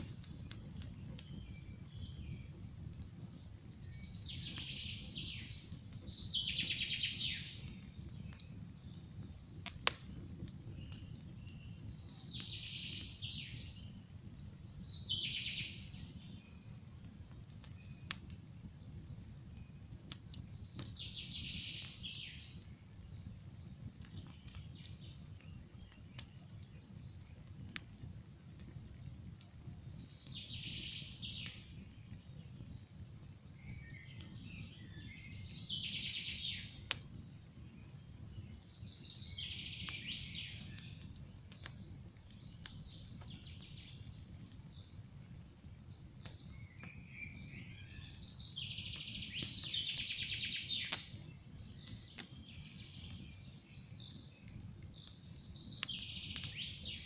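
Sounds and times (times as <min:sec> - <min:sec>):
campfire crackling and popping: 0:00.0 - 0:57.0
songbirds singing: 0:00.0 - 0:57.0.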